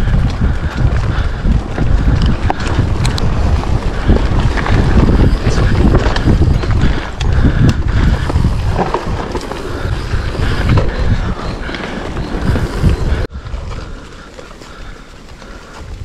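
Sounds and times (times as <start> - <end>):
bike rattling over bumps: 0.0 - 16.0
tyres rumbling on dirt trail: 0.0 - 16.0
wind buffeting microphone: 0.0 - 16.0.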